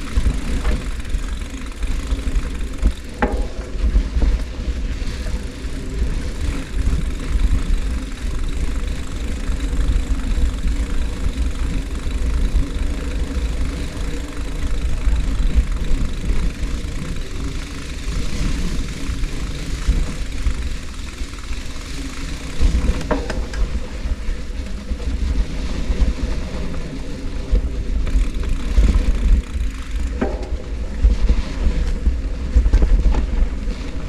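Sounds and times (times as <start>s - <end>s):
tyre and road noise: 0.0s - 34.0s
wind rumble on microphone: 0.0s - 34.0s.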